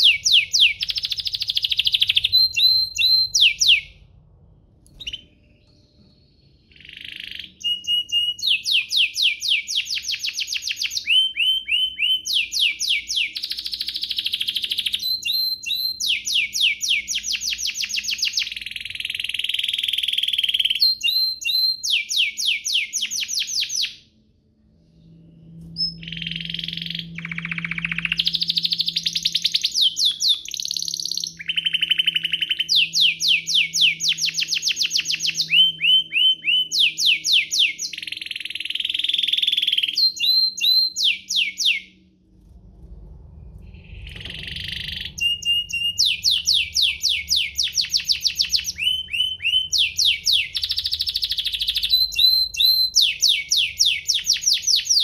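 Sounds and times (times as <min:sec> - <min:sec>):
canary singing trills: 0:00.0 - 0:04.0, 0:04.9 - 0:24.0, 0:25.5 - 0:41.9, 0:43.7 - 0:55.0.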